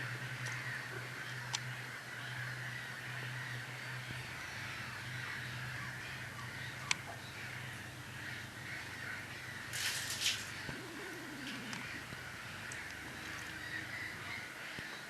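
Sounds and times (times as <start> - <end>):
birds calling: 0.0 - 15.0
harsh cawing calls: 0.0 - 15.0
low background hum: 0.0 - 15.0.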